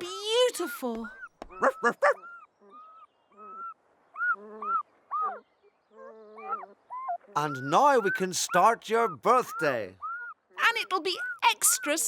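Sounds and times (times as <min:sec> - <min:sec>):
cartoon puppies whimpering: 0:00.2 - 0:05.4, 0:06.0 - 0:12.0.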